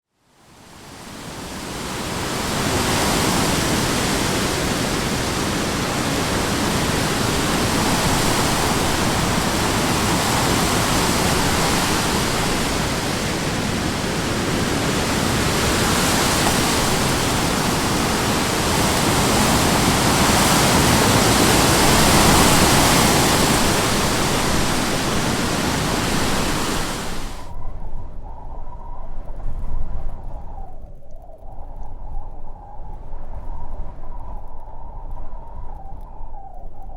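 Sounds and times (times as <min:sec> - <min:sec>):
strong wind blowing: 0:00.8 - 0:36.9.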